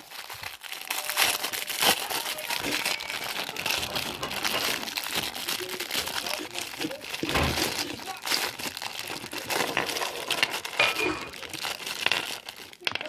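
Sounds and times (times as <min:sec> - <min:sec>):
knife cutting packaging: 0:00.0 - 0:12.8
packaging crinkling: 0:00.0 - 0:13.0.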